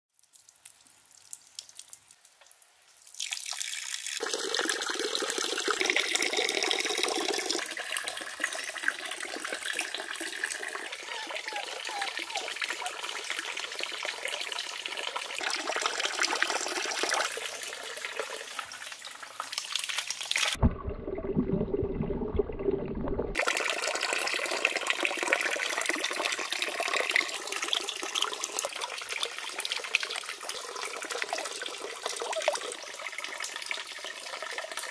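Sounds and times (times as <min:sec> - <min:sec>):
water running and splashing: 0:00.2 - 0:20.7, 0:23.2 - 0:34.9.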